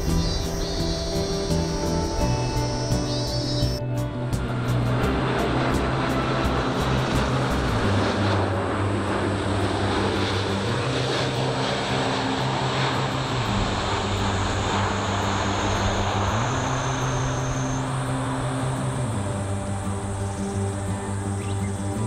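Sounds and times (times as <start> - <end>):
jet engine rushing: 0.0 - 22.0.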